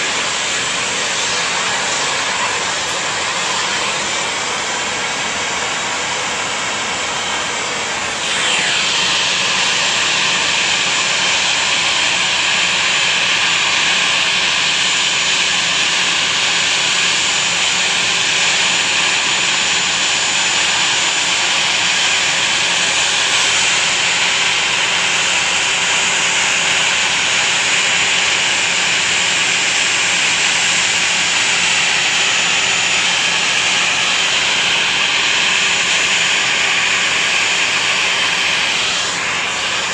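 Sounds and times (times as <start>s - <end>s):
high-pitched engine whines: 0.0s - 39.9s
jet engines running: 0.0s - 39.9s.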